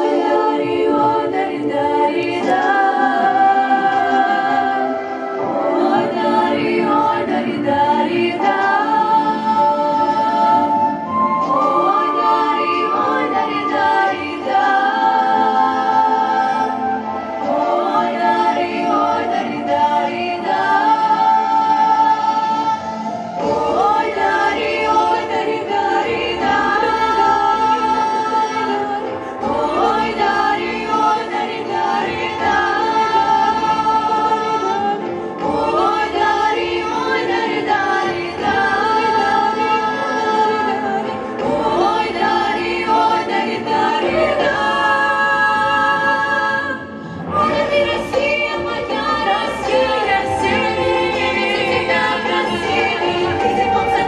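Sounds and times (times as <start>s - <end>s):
women singing in harmony: 0.0s - 54.0s.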